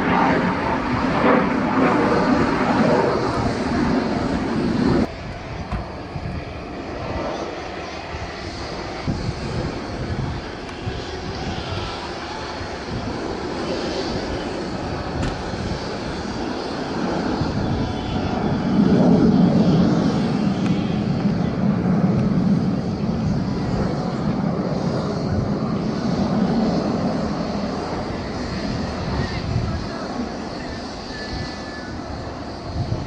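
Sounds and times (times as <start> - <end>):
jet engines rumbling overhead: 0.0 - 33.0.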